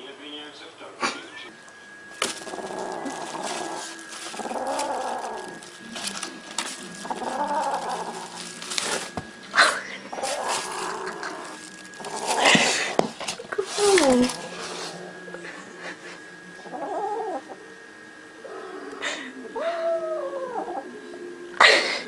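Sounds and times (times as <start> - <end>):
faint high whine: 0.0 - 22.0
pet animal growling: 2.2 - 17.6, 18.4 - 21.8.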